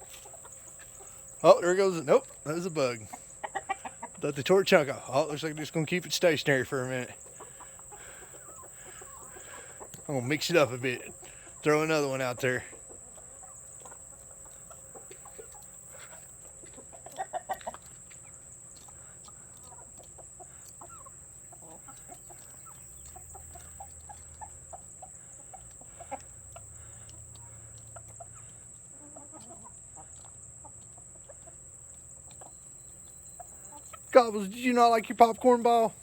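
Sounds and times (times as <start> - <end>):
hens clucking: 0.0 - 36.0.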